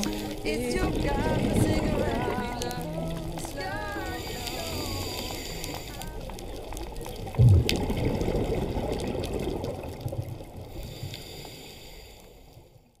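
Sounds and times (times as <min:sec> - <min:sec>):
water rushing and splashing: 0:00.0 - 0:11.6.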